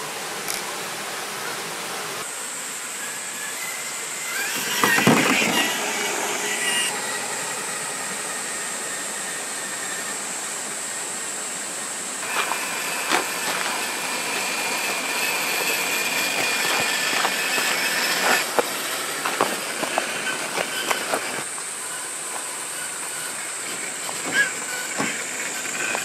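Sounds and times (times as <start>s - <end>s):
electric motor whining: 2.2s - 26.0s.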